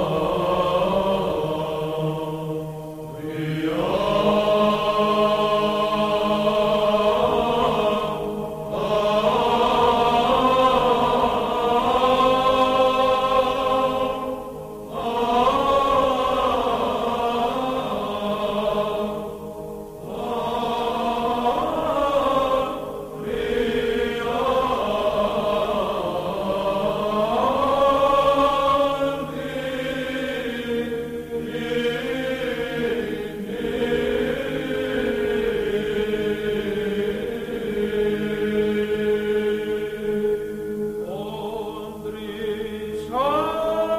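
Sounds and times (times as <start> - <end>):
voices chanting: 0.0 - 43.9.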